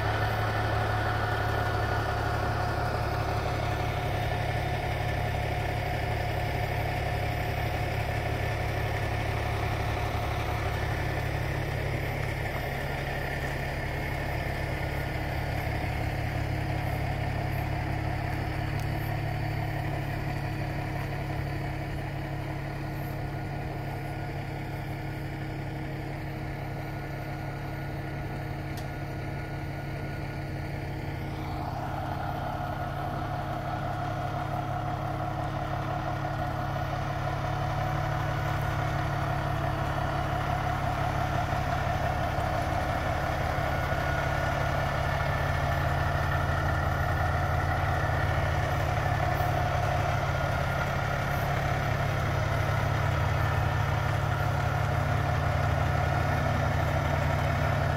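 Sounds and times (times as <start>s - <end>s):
diesel engine idling: 0.0s - 57.9s.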